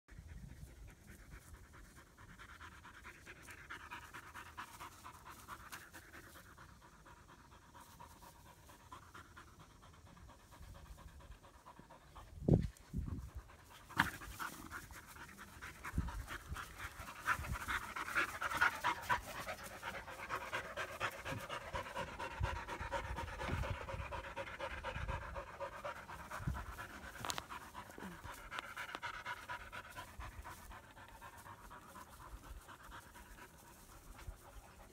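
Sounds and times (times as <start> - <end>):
puppies panting: 0.1 - 34.9.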